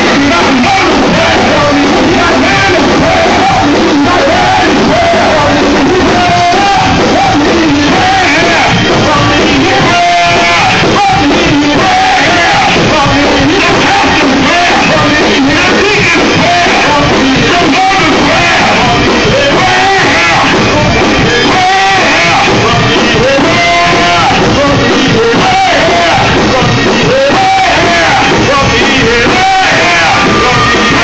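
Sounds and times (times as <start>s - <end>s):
drums: 0.0s - 31.0s
man singing gospel into microphone: 0.0s - 31.0s
organ: 0.0s - 31.0s.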